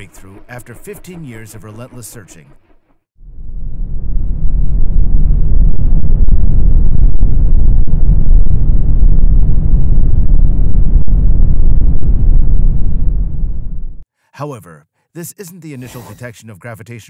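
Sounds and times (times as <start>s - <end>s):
deep rumbling noise: 0.0s - 14.0s.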